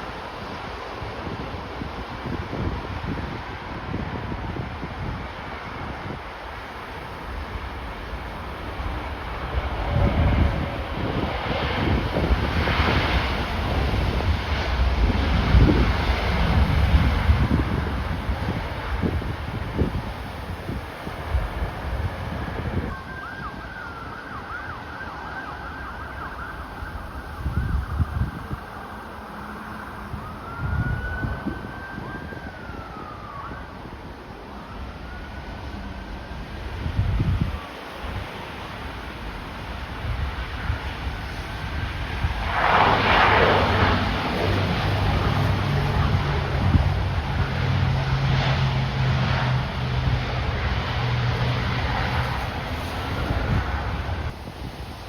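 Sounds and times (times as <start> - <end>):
jet engines droning: 0.0 - 55.0
wind buffeting microphone: 0.0 - 55.0
distant siren wailing: 6.5 - 54.6.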